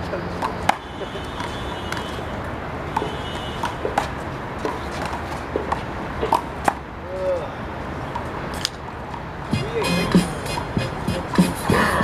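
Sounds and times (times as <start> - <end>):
background noise: 0.0 - 12.0.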